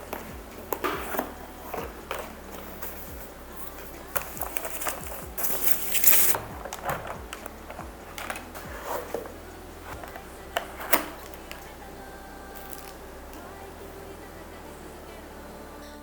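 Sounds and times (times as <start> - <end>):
rustling: 0.0 - 13.6.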